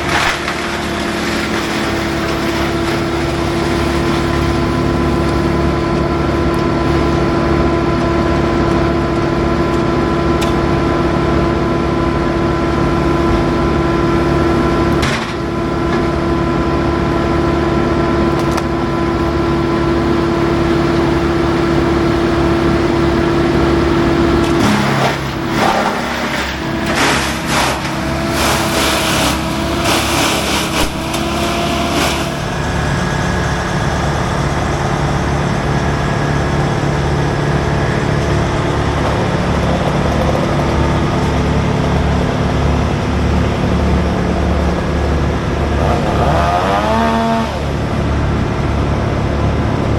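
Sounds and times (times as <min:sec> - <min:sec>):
heavy machinery engine running: 0:00.0 - 0:49.9.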